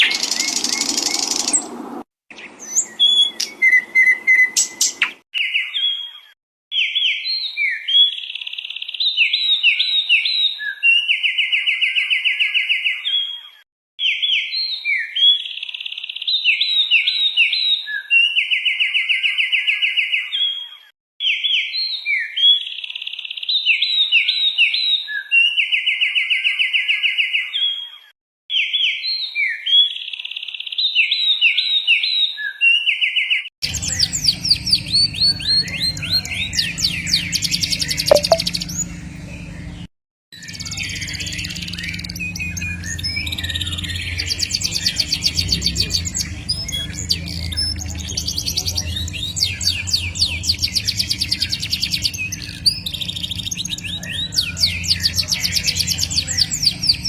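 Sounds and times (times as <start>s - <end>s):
songbirds whistling and trilling: 0.0s - 57.0s.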